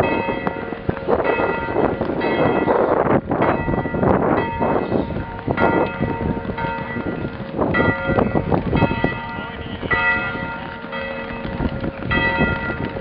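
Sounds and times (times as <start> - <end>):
church bell ringing: 0.0 - 13.0
rough background noise: 0.0 - 13.0.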